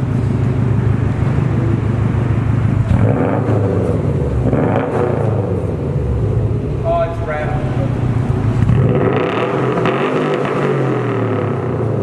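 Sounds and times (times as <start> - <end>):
car engine idle burble: 0.0 - 12.0
engine throttle blips: 0.0 - 12.0.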